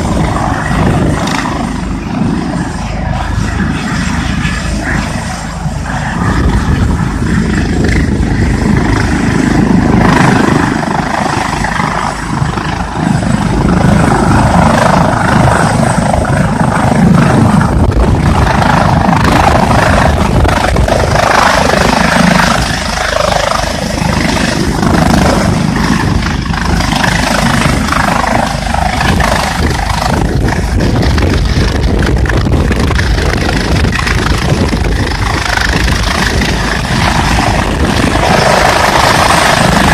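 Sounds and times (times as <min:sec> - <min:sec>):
helicopter engine and rotors: 0:00.0 - 0:39.9
wind buffeting microphone: 0:00.0 - 0:39.9.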